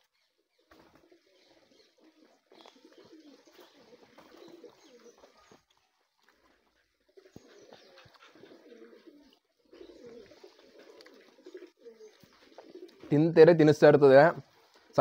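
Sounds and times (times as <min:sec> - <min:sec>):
faint low bird calls: 0:00.0 - 0:13.2.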